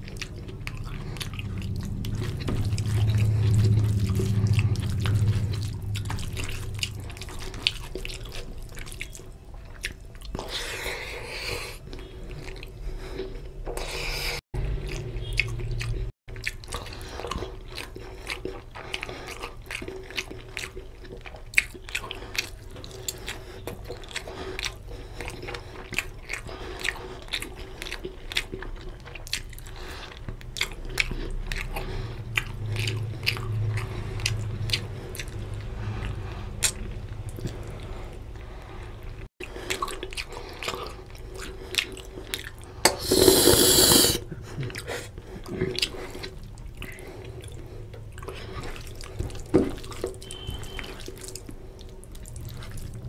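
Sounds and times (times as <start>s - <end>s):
chewing and mouth smacking: 0.0s - 53.0s.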